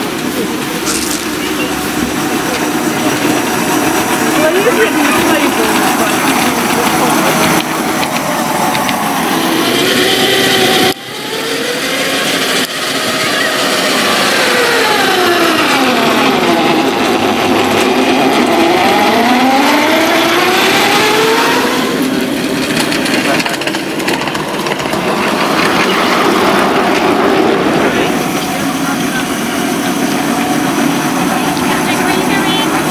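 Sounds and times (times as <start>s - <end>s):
miniature locomotive running: 0.0s - 32.9s.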